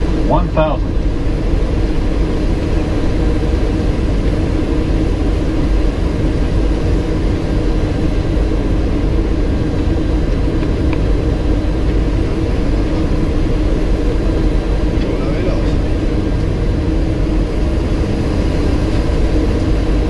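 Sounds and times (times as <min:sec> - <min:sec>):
airflow and engine roar in cockpit: 0:00.0 - 0:20.0
low hum: 0:00.0 - 0:20.0.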